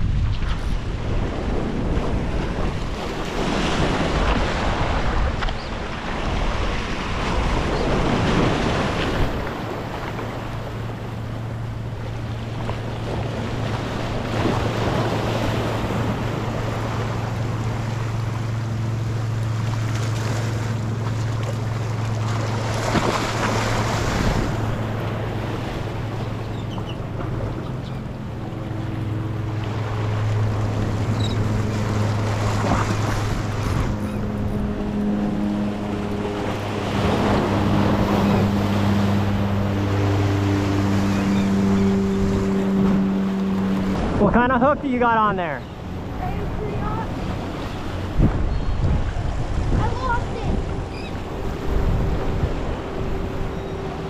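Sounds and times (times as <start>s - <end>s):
wind buffeting microphone: 0.0s - 19.3s, 22.7s - 54.0s
waves splashing against rocks: 0.0s - 26.2s, 28.6s - 54.0s
steady low hum: 0.0s - 54.0s.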